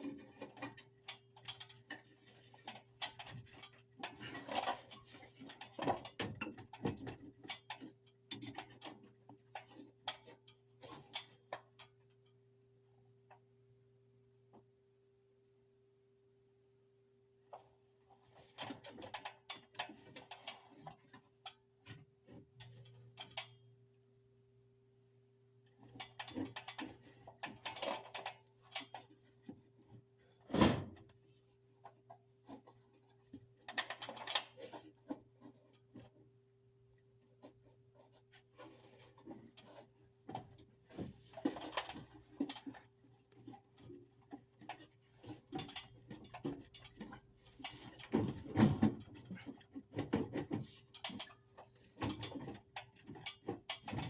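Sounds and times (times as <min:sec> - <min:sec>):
clicks and rattles of tools: 0:00.0 - 0:12.4, 0:18.4 - 0:23.8, 0:25.6 - 0:31.2, 0:31.8 - 0:36.3, 0:37.2 - 0:54.0.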